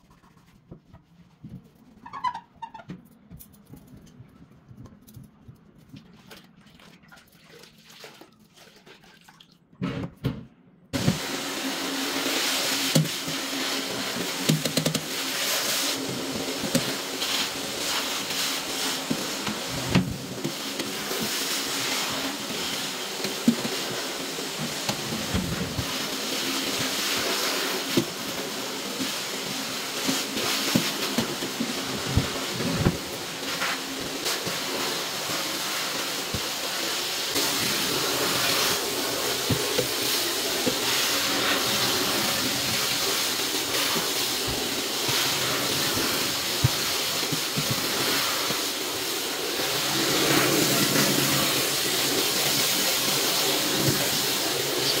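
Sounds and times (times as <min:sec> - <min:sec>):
water running from a tap: 0:11.0 - 0:55.0.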